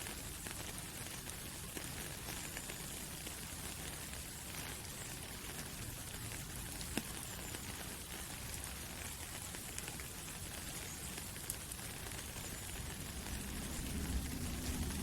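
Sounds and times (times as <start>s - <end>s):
rain pattering on leaves: 0.0s - 15.0s.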